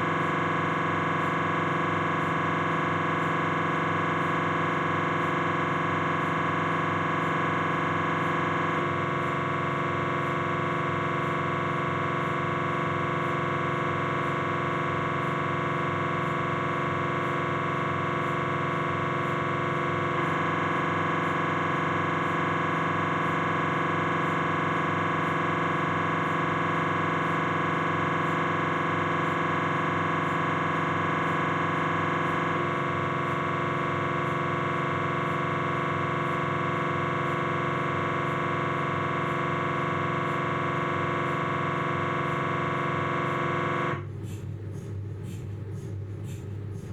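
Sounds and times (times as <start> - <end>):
mri scanner loud tone: 0.0 - 46.9.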